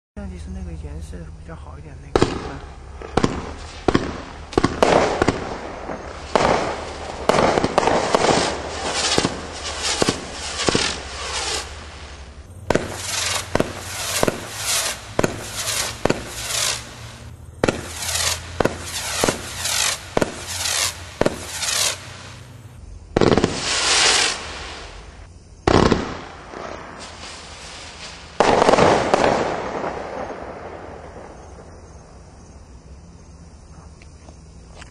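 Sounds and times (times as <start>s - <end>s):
firework crackling bursts: 2.1s - 31.8s
firework shots launching: 2.1s - 31.9s.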